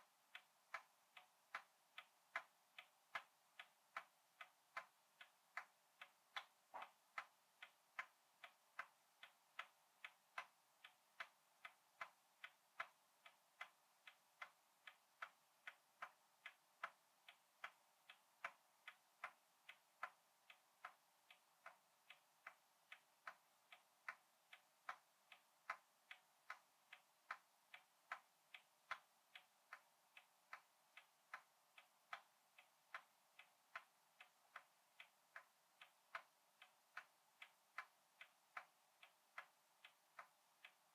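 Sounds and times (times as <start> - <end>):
pendulum clock ticking: 0.0 - 40.9.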